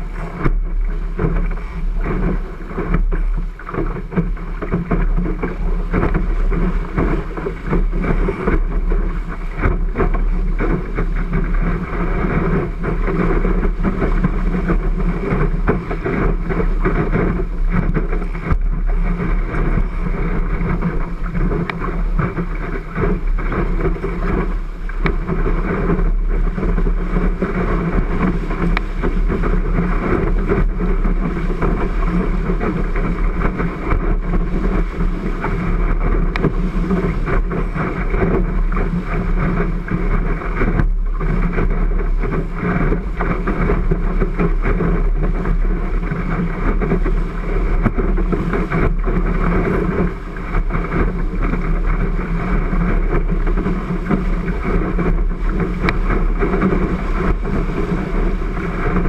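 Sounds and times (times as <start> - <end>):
water rushing along boat hull: 0.0 - 59.0
wind buffeting microphone: 0.0 - 59.0.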